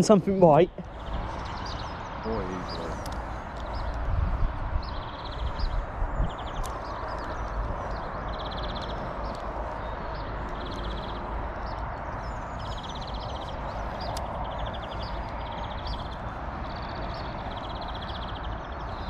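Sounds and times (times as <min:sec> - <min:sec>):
birds singing: 0:00.0 - 0:19.0
wind on microphone: 0:00.4 - 0:19.0.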